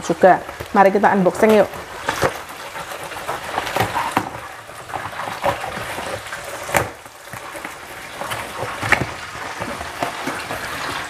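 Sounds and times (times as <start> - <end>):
cardboard flaps rustling: 0.4 - 11.0.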